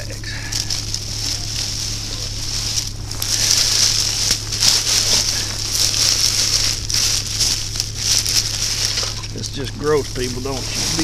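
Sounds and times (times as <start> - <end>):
plastic trash bag rustling: 0.0 - 11.0.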